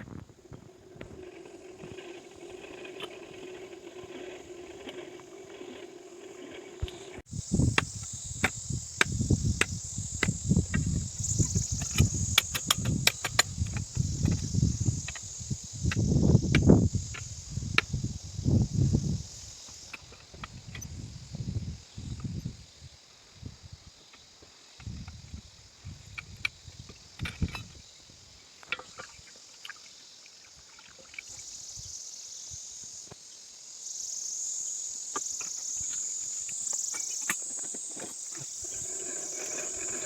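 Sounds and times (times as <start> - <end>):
high insect-like buzz: 0.0 - 40.0.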